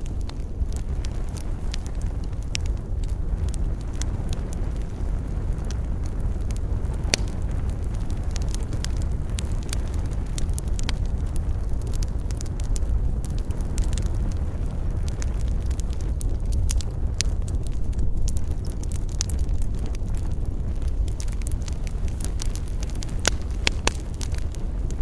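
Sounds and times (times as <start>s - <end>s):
campfire crackling and popping: 0.0s - 25.0s
low rumble: 0.0s - 25.0s.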